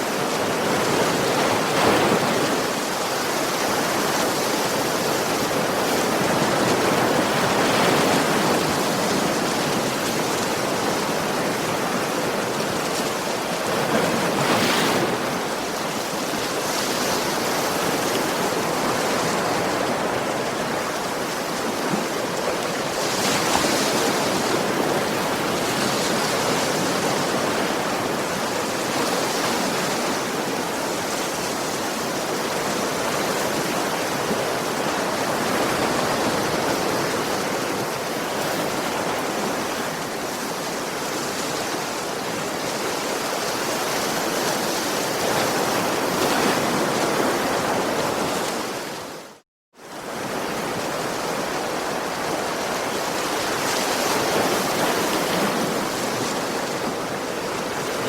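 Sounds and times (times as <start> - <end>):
ocean waves on shore: 0.0 - 58.0.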